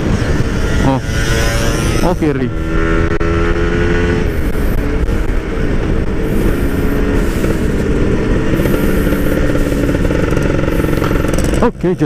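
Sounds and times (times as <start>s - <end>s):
two-stroke motorcycle engine running: 0.0s - 12.0s
wind and road rumble: 0.0s - 12.0s.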